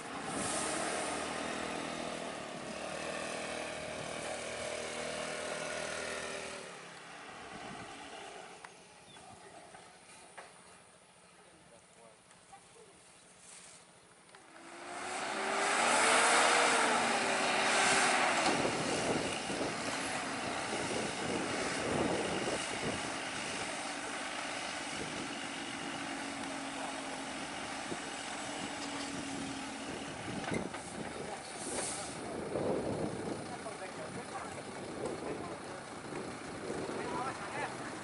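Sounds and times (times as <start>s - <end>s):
heavy truck engine under load: 0.0s - 10.4s, 14.3s - 38.0s.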